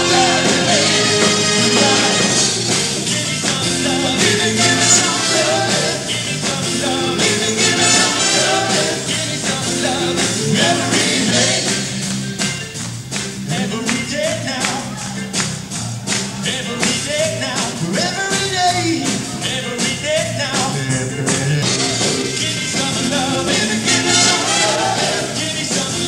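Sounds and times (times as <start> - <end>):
live blues band with horns: 0.0 - 26.0.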